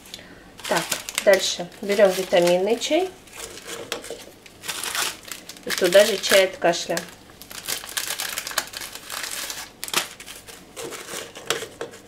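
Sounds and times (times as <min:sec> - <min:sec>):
tea bag packets crinkling: 0:00.6 - 0:12.0.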